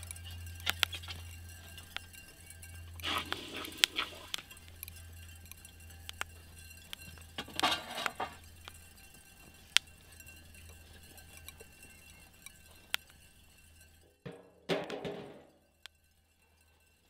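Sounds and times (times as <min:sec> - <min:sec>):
glaze crackling with glassy pings: 0:00.0 - 0:17.0.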